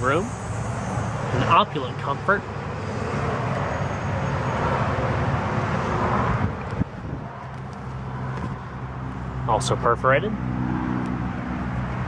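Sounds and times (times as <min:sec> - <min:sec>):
road traffic: 0:00.0 - 0:12.0
vehicle passing: 0:00.0 - 0:12.0.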